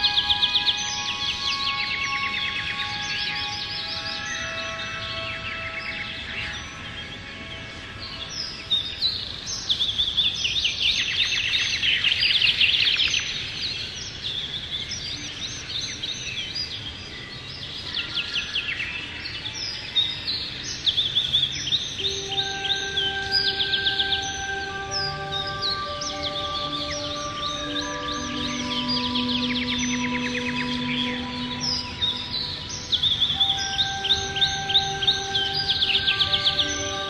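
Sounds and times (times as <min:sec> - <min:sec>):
background hiss: 0:00.0 - 0:37.0
songbirds singing: 0:00.0 - 0:37.0.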